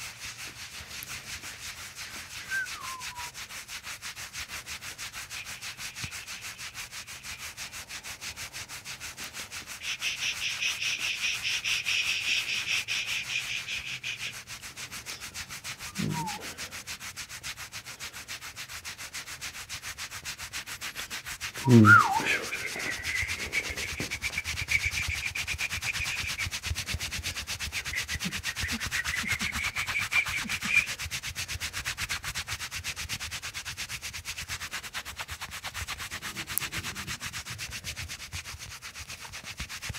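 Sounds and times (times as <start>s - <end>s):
hands rubbing bare skin: 0.0s - 39.9s.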